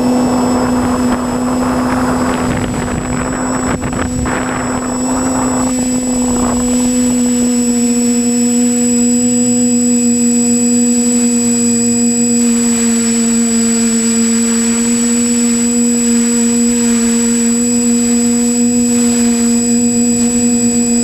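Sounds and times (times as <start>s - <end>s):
drone motors and propellers buzzing: 0.0s - 21.0s.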